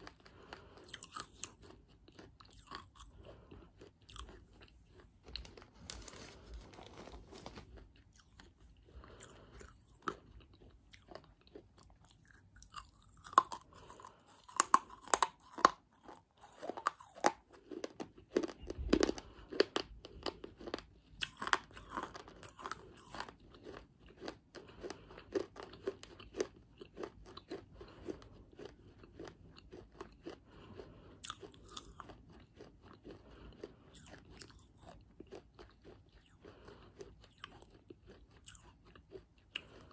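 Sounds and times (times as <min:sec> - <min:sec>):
close crunchy chewing: 0:00.0 - 0:39.9.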